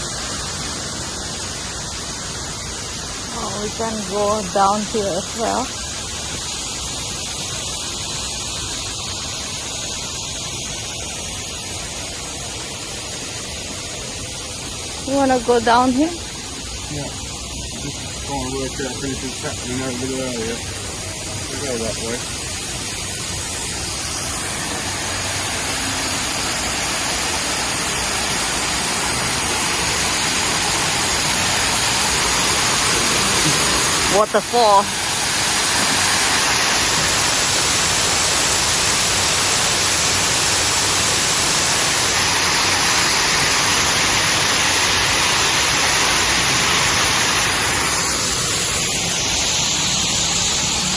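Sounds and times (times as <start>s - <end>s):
steady hiss: 0.0s - 50.9s
waterfall rushing: 0.0s - 50.9s.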